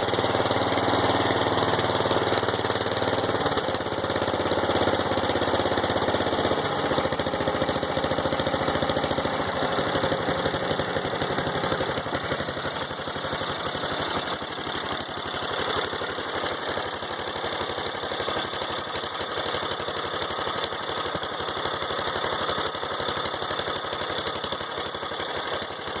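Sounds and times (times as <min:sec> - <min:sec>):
lawnmower engine pulsing: 0:00.0 - 0:26.0.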